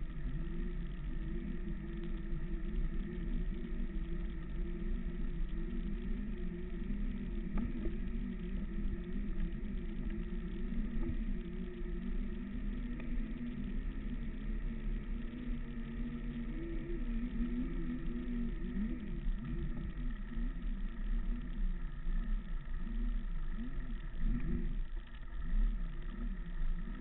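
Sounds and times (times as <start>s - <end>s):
electric motor whine: 0.0s - 27.0s
low rumble: 0.0s - 27.0s.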